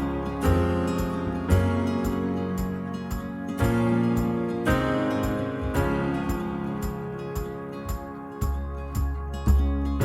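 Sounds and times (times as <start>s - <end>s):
acoustic guitar instrumental: 0.0s - 10.0s.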